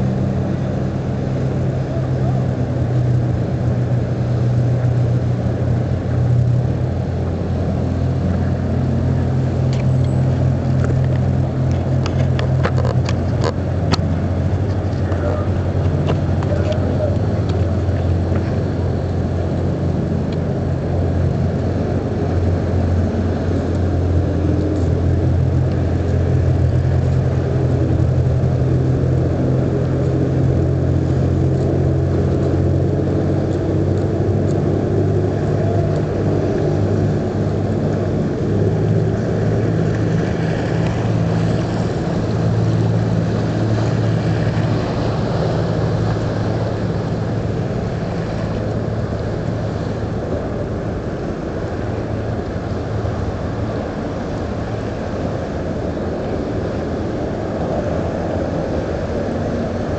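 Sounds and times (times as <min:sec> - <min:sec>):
engine humming: 0:00.0 - 0:59.9
water noise: 0:00.0 - 0:59.9
wind: 0:00.0 - 0:59.9.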